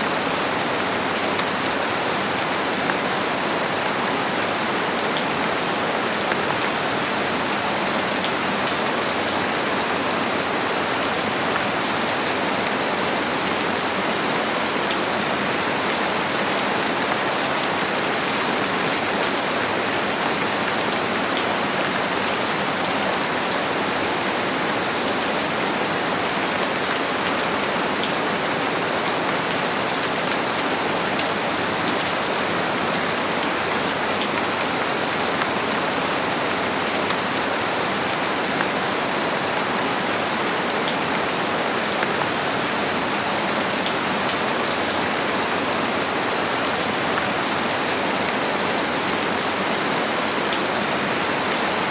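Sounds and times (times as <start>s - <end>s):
heavy rain falling: 0.0s - 51.9s
rain drops ticking on surface: 0.0s - 51.9s.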